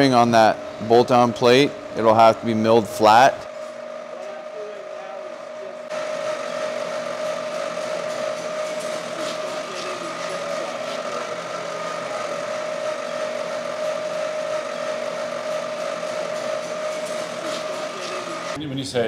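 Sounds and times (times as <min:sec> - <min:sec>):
milling machine cutting whine: 0:00.0 - 0:18.6.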